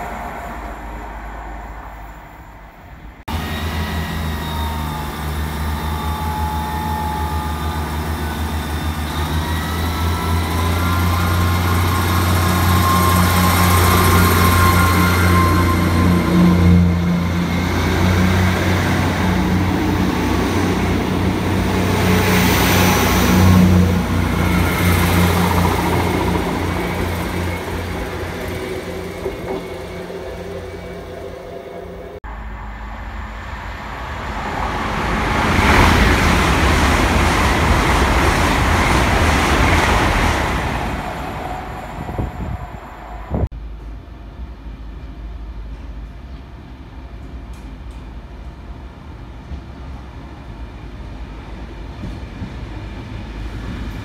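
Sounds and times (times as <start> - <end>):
train diesel engines droning: 0.0 - 54.0.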